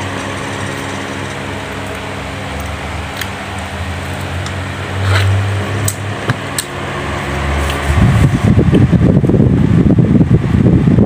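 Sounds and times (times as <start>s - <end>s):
appliance humming: 0.0s - 11.0s.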